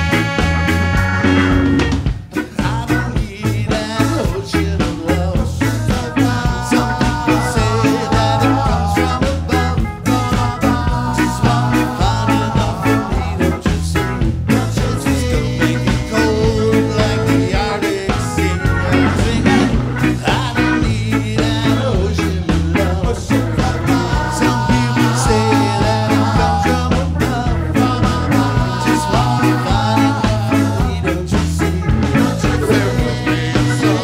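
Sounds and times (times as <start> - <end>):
live band playing ska groove: 0.0 - 34.0
saxophone: 0.0 - 34.0.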